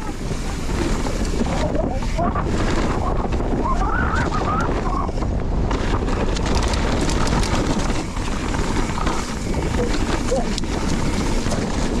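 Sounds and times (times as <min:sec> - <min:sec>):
mountain bike tyres and rattling: 0:00.0 - 0:12.0
wind on microphone: 0:00.0 - 0:12.0.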